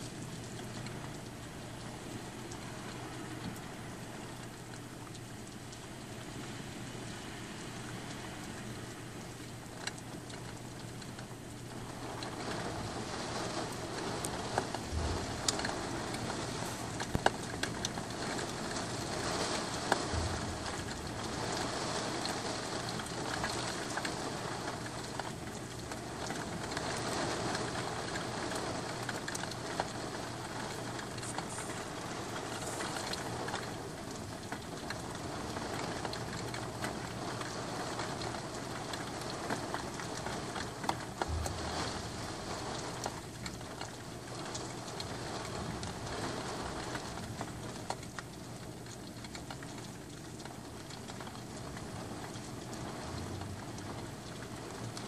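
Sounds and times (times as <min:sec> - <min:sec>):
close raindrops ticking: 0:00.0 - 0:55.0
heavy rain on wet street: 0:00.0 - 0:55.0.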